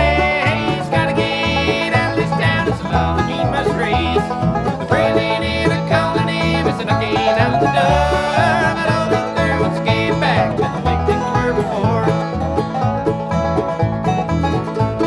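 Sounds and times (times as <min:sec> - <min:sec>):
banjo: 0:00.0 - 0:15.0
bluegrass band playing: 0:00.0 - 0:15.0.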